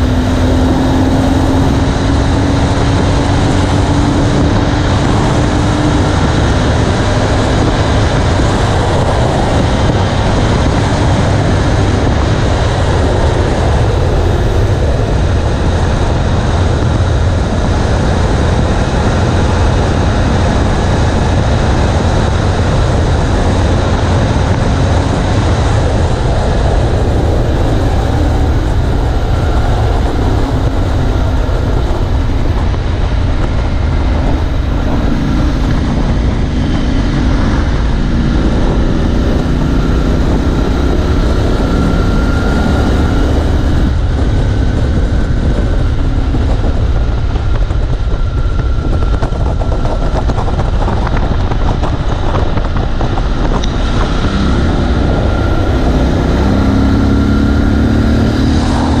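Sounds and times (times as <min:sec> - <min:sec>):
motorcycle engine revving: 0:00.0 - 0:59.0
wind rumble on microphone: 0:00.0 - 0:59.0.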